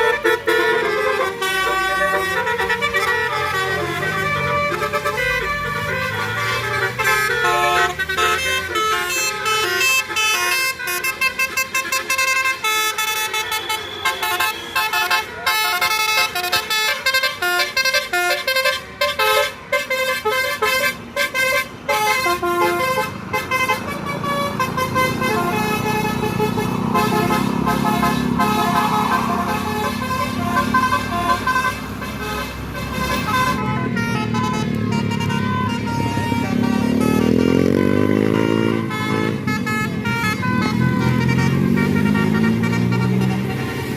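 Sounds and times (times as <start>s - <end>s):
bus engine: 0.0s - 43.9s
musical air horn melody: 0.0s - 43.9s.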